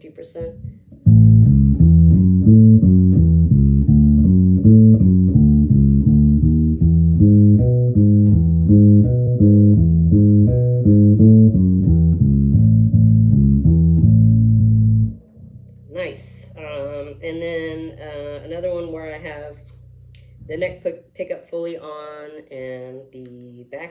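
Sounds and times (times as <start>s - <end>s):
electric bass playing quick notes: 0.5s - 20.9s.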